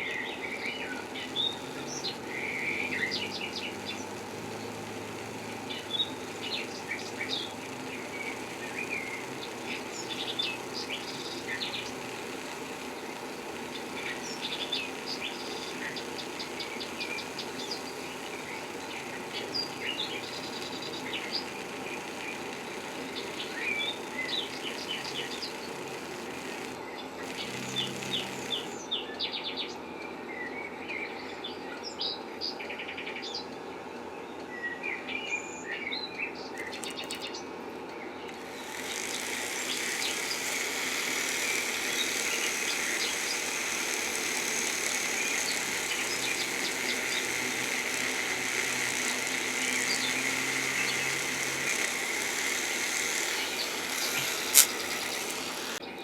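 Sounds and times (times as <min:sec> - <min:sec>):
small birds chirping and trilling: 0:00.0 - 0:29.8, 0:34.2 - 0:56.0.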